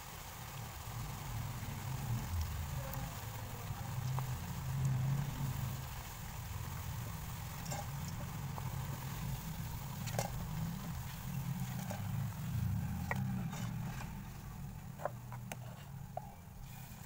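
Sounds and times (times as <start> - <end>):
food frying in hot oil: 0.0 - 17.0
low rumble: 0.8 - 17.0.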